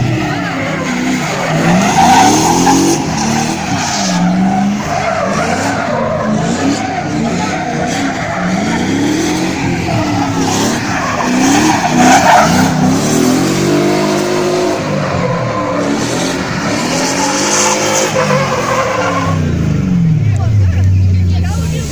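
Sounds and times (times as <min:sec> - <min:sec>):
car engine revving: 0:00.0 - 0:21.9
tyres skidding and squealing: 0:00.0 - 0:21.9.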